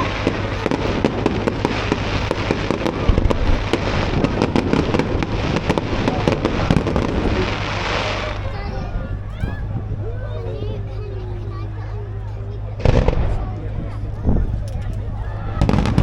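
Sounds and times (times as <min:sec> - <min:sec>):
fireworks crackling and banging: 0:00.0 - 0:10.8, 0:11.7 - 0:16.0
low rumble: 0:00.0 - 0:16.0.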